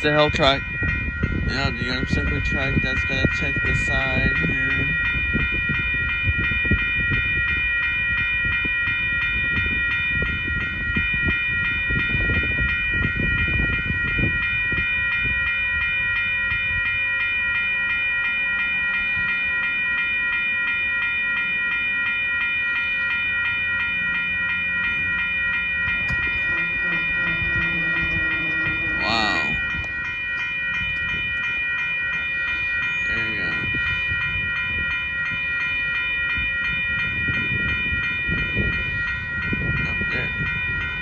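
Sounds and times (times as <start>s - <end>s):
crossing warning bell ringing: 0.0s - 41.0s.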